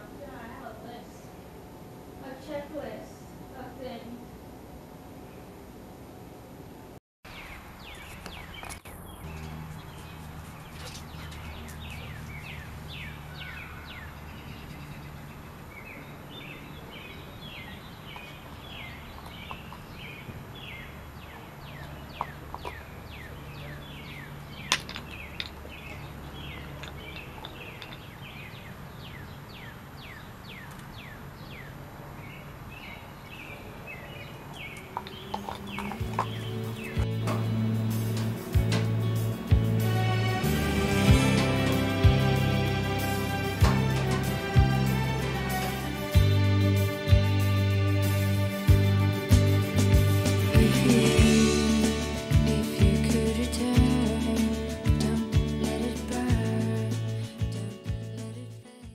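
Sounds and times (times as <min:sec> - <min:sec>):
songbirds chirping: 0:07.3 - 0:58.6.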